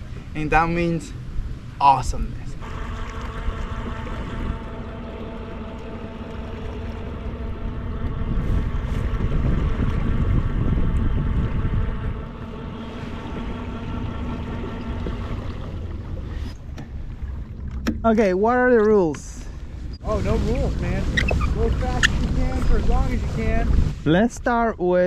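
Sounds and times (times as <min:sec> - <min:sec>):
water and wind rushing: 0:00.0 - 0:25.0.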